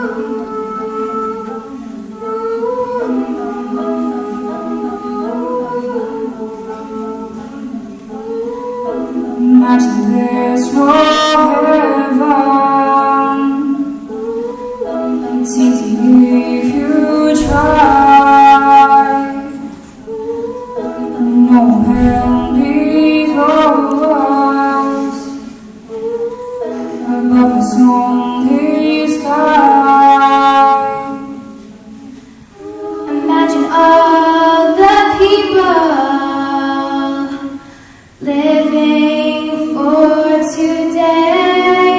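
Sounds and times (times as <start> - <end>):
female vocal group singing a cappella: 0.0 - 41.9.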